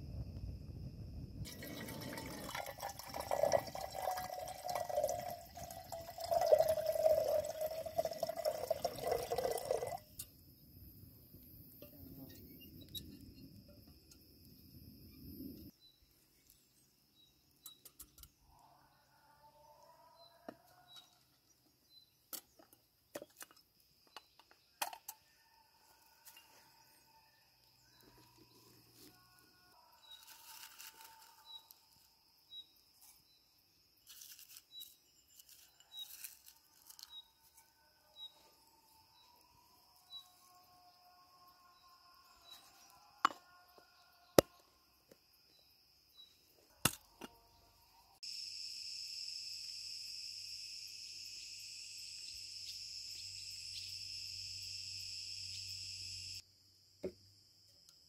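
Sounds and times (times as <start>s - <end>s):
chorus of insects: 0.0s - 58.0s.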